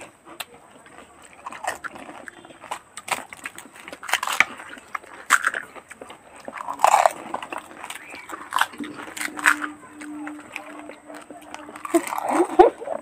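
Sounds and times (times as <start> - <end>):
crisp shells cracking and crunching: 0.0 - 13.0.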